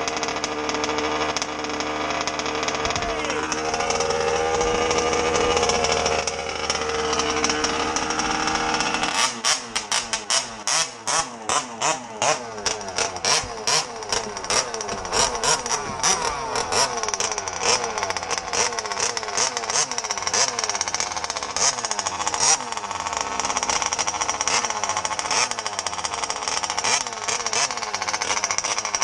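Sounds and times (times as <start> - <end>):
two-stroke engine revving: 0.0 - 29.0.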